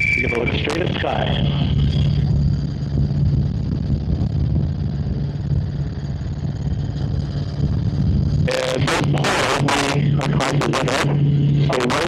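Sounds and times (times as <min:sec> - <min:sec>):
helicopter rotors droning: 0:00.0 - 0:12.0.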